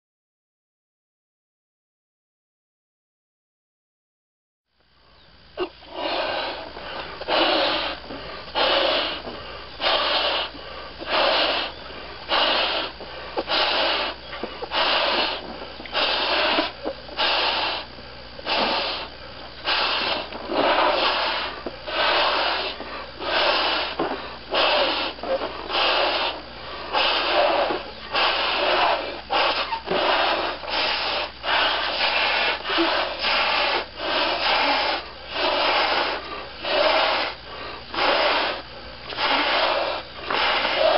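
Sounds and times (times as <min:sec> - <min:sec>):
people blowing up balloons: 0:05.6 - 0:40.9.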